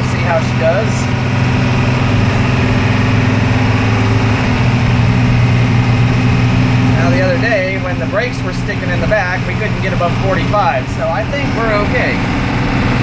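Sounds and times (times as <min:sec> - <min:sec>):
diesel bus engine accelerating: 0:00.0 - 0:13.0
road noise: 0:00.0 - 0:13.0.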